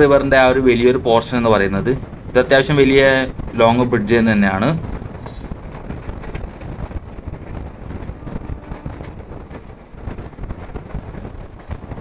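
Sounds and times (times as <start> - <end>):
rapid irregular clattering: 0.0 - 12.0
train rumbling on a bridge: 0.0 - 12.0.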